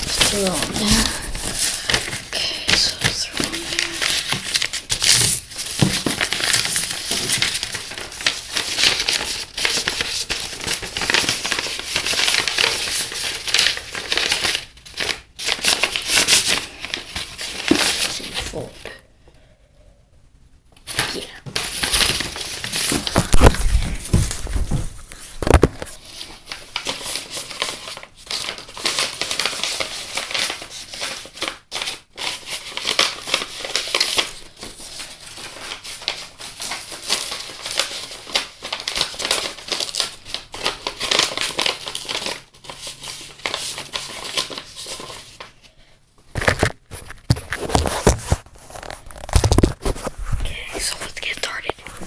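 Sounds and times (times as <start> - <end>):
paper crinkling and rustling: 0.0 - 18.9, 20.8 - 52.0.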